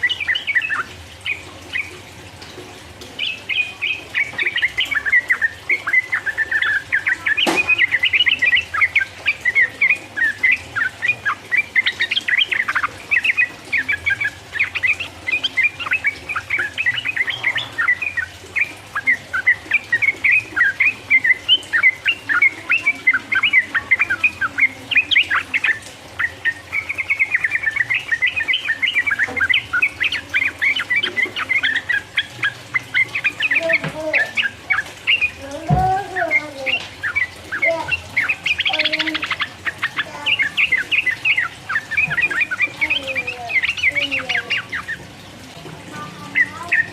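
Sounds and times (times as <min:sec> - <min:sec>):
bird chattering song: 0:00.0 - 0:46.9.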